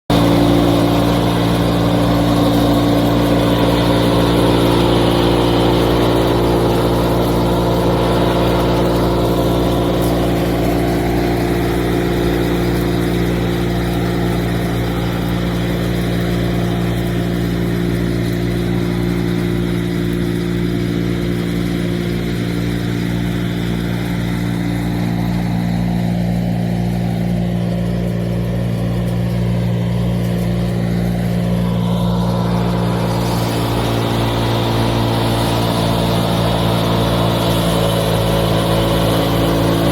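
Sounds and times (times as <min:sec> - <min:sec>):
large engine running steadily: 0:00.0 - 0:39.9.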